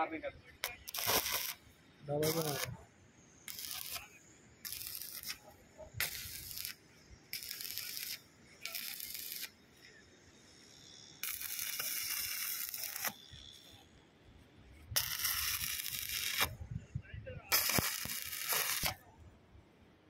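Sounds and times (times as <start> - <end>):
welding arc crackling and hissing: 0.1 - 13.8, 14.8 - 16.6, 17.5 - 19.0.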